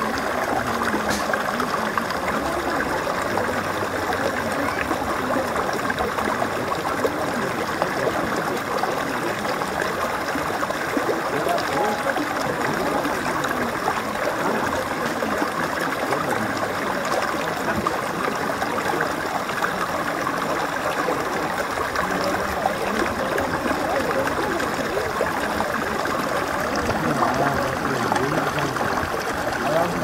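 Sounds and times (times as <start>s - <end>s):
stream splashing over stones: 0.0s - 30.0s.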